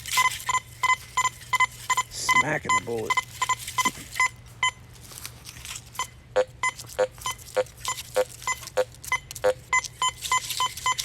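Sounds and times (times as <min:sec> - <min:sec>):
metal detector beeps: 0:00.2 - 0:04.8, 0:06.0 - 0:11.0.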